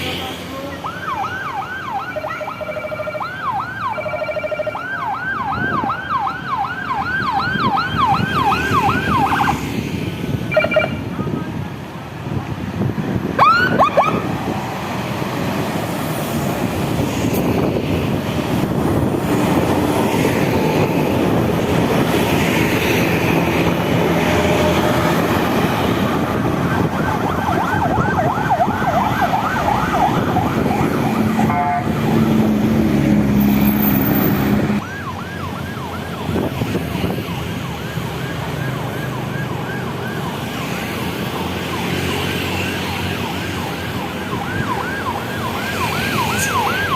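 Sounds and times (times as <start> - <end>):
bus engines and tyres: 0.0 - 46.9
sirens yelping: 0.6 - 9.8, 10.4 - 12.1, 13.2 - 14.5, 16.0 - 46.9.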